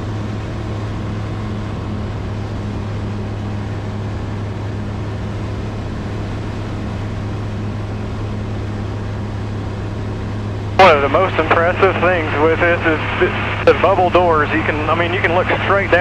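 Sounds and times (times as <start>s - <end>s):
light aircraft engine droning: 0.0s - 16.0s.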